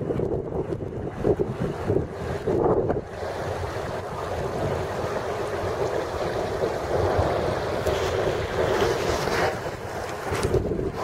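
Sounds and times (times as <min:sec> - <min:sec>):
wind on microphone: 0:00.0 - 0:11.0
small waves washing onto rocks: 0:01.2 - 0:11.0.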